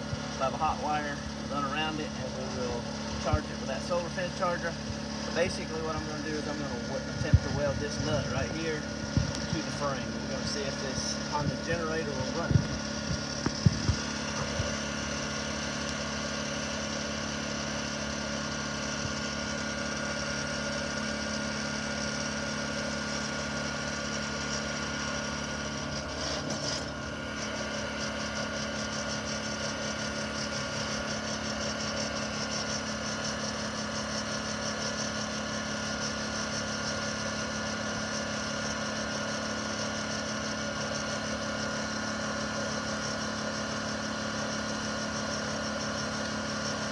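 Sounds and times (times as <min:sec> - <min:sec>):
generator engine running: 0:00.0 - 0:46.9.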